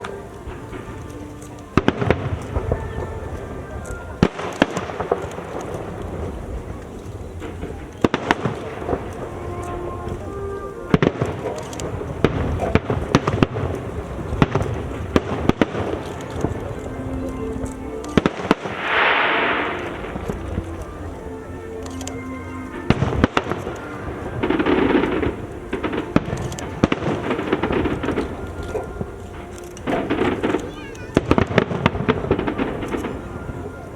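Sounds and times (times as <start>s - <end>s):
fireworks bangs: 0.0s - 33.9s
fireworks crackling: 0.0s - 33.9s.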